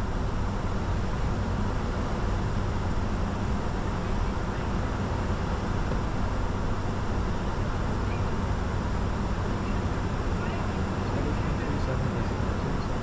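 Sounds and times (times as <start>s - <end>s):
constant low hum: 0.0s - 13.0s
jet engine and airflow rush: 0.1s - 13.0s.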